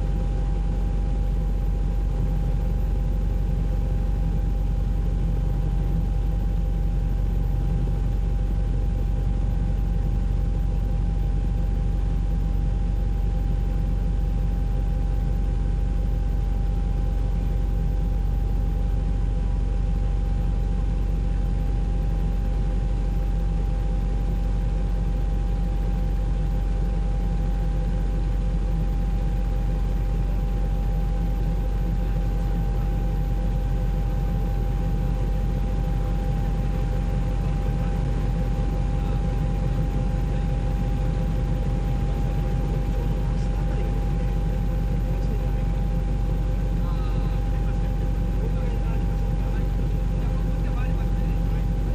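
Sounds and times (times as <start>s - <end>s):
helicopter cabin rumble: 0.0s - 51.9s
thin steady whine: 0.0s - 51.9s.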